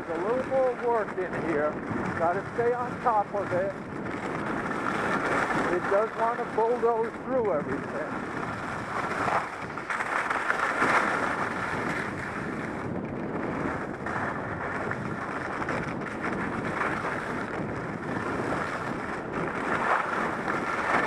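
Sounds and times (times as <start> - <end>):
skis scraping over snow: 0.0 - 21.0
wind rushing over microphone: 0.0 - 21.0.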